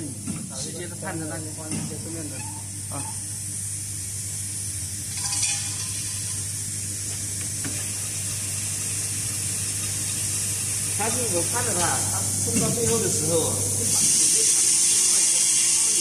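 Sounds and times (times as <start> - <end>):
machine electrical hum: 0.0 - 16.0.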